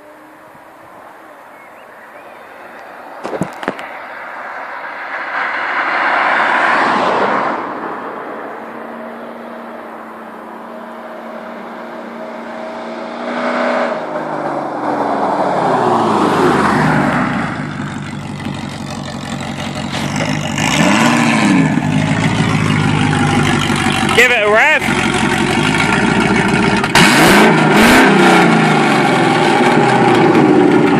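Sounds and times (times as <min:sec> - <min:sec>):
car engine revving: 0:03.5 - 0:30.9.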